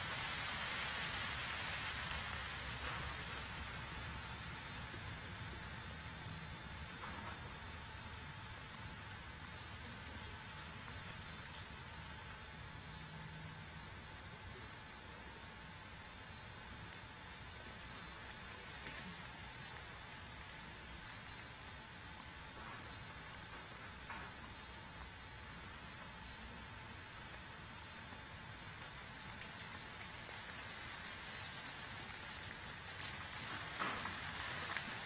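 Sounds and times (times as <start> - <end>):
outdoor background hiss: 0.0 - 35.0.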